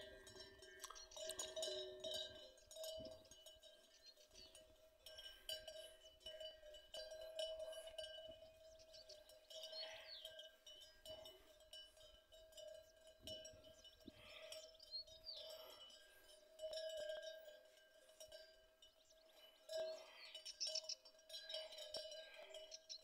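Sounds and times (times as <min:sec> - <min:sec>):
cattle bells ringing: 0:00.0 - 0:23.0.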